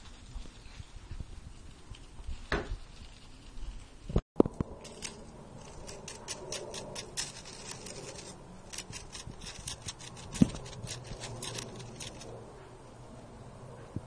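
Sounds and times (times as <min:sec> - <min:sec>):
stick scraping through dry leaves: 0:00.0 - 0:12.3.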